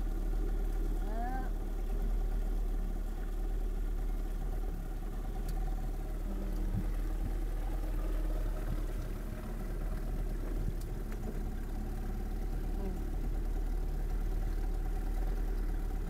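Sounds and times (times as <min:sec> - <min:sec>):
boat engine idling: 0:00.0 - 0:16.0
faint steady hum: 0:00.0 - 0:16.0.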